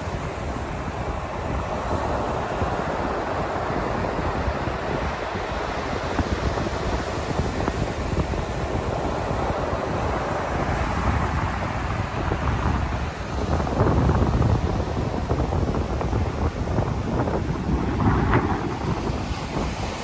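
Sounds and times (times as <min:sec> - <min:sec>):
surf breaking on sandy beach: 0:00.0 - 0:20.0
wind buffeting microphone: 0:00.0 - 0:20.0.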